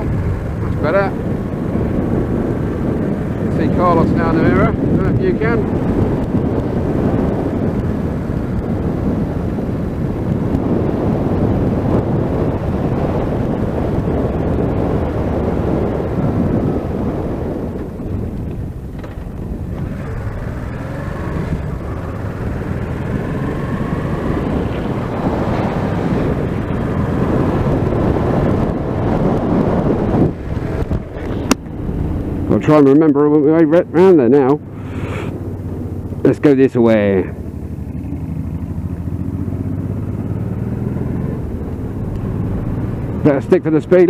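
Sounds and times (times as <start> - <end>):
motorcycle engine running: 0.0 - 44.0
wind rushing over microphone: 0.0 - 44.0.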